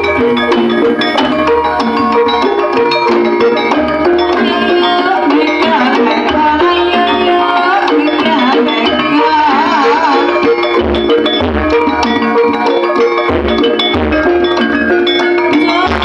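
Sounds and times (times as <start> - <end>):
drum and percussion beats: 0.0 - 16.0
wavering vibrato melody: 0.0 - 16.0.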